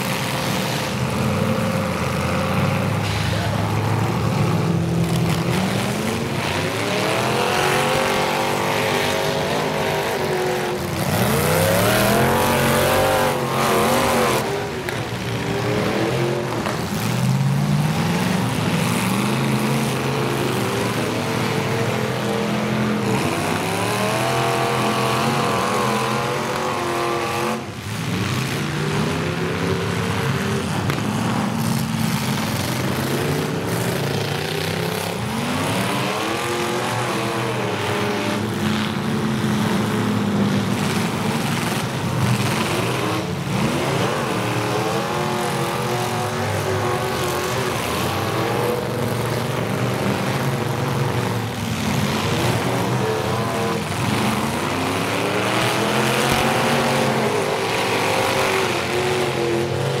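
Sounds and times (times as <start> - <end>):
car engines revving: 0.0 - 60.0.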